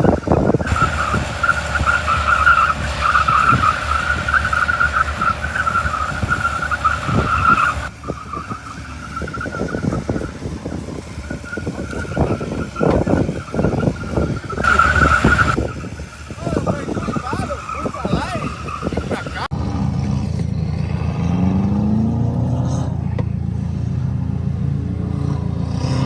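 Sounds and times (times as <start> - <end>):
engine under hard throttle: 0.0 - 26.0.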